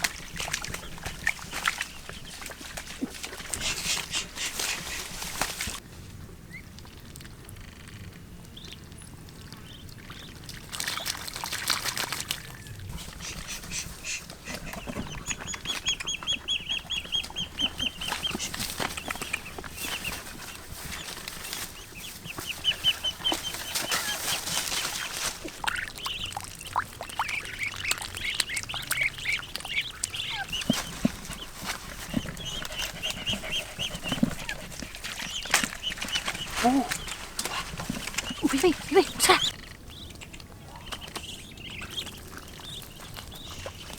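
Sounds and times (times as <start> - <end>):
ducks calling: 0.0 - 5.8, 12.9 - 43.9.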